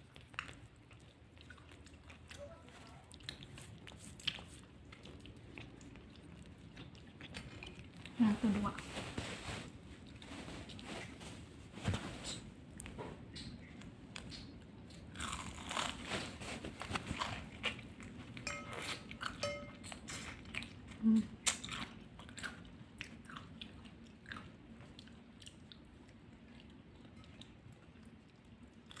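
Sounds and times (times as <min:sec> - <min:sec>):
chewing crunchy food: 0:00.0 - 0:11.5, 0:12.3 - 0:29.0.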